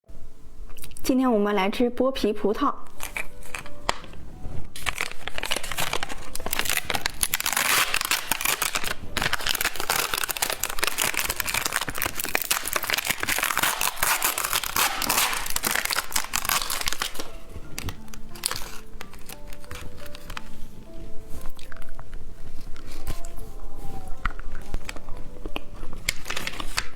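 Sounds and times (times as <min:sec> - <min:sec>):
light background music: 0:00.1 - 0:26.9
candy packaging crinkling: 0:02.8 - 0:26.9.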